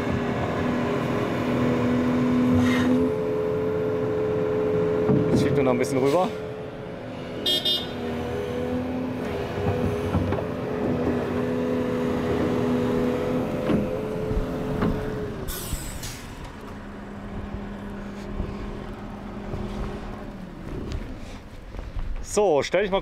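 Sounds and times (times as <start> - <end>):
excavator diesel engine droning: 0.0 - 21.8.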